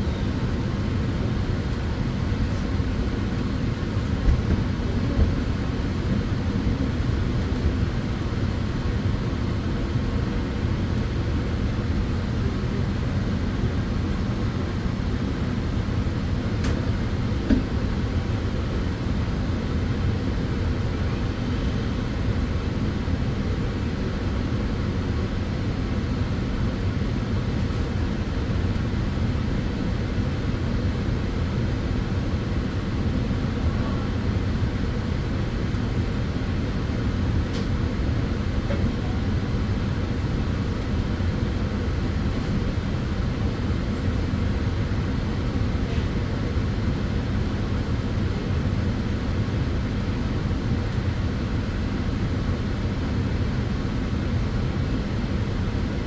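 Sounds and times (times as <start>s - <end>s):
sunbed cooling fans whirring: 0.0s - 56.0s.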